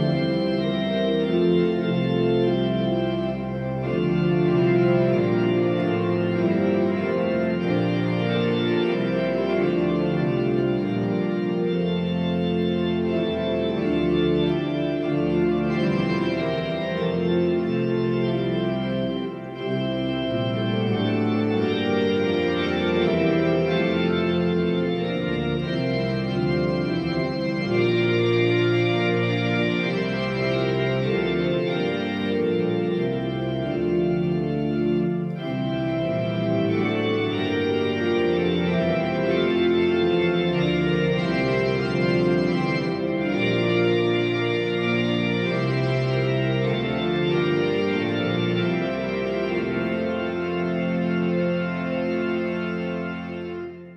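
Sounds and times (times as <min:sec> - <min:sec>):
organ playing a hymn: 0:00.0 - 0:53.9.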